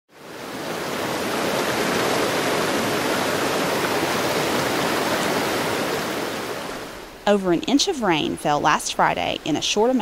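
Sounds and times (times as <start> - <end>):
waterfall rushing: 0.2 - 10.0.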